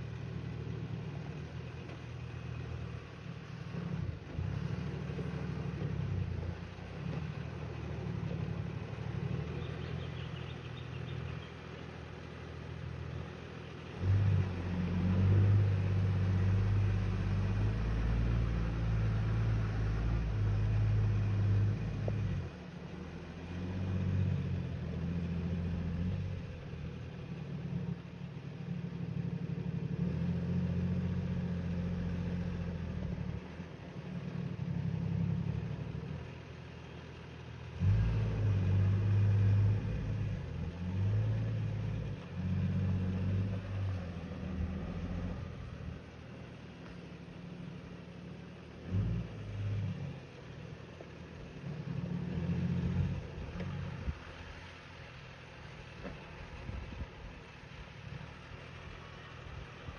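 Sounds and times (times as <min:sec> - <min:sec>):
truck engine revving under load: 0:00.0 - 0:59.9.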